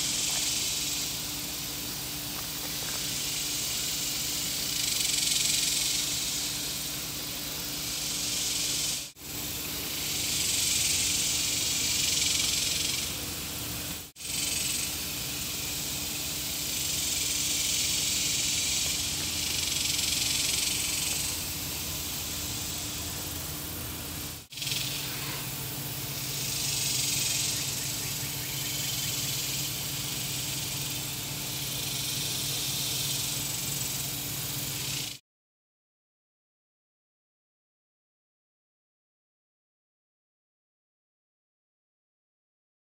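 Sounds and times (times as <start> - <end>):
low steady hum: 0.0 - 35.0
insect chorus hiss: 0.0 - 35.2.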